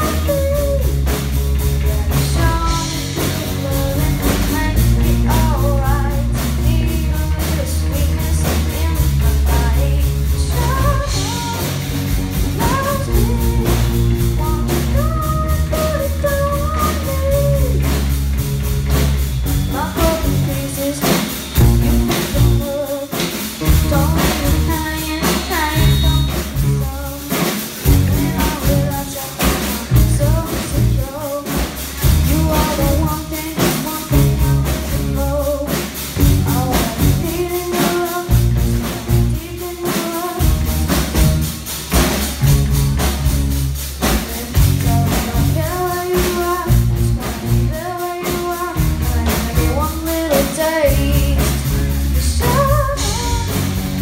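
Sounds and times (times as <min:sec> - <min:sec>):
person singing lead vocals: 0:00.0 - 0:01.1, 0:01.7 - 0:18.1, 0:19.7 - 0:41.3, 0:44.0 - 0:54.0
drum kit: 0:00.0 - 0:54.0
electric guitars: 0:00.0 - 0:54.0.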